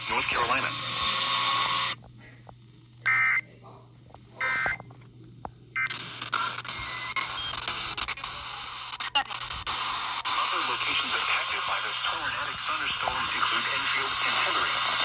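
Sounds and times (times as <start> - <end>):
radio static hiss: 0.0 - 3.6, 5.8 - 15.0.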